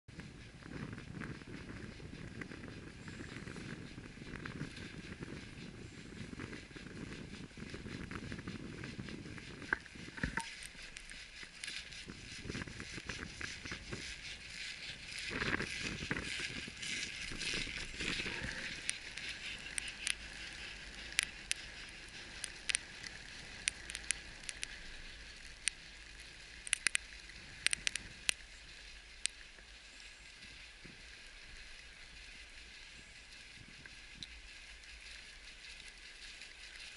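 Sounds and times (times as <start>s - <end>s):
crackling clicks: 6.2s - 36.9s.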